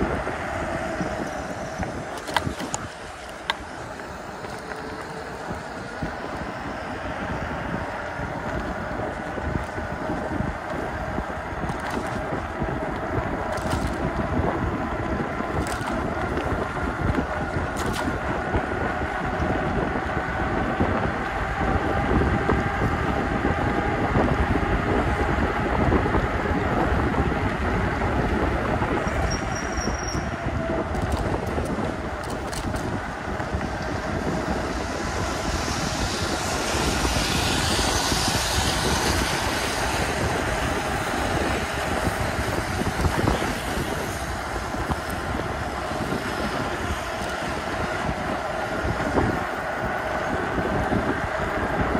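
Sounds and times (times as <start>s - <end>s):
wind and road rush: 0.0s - 51.9s.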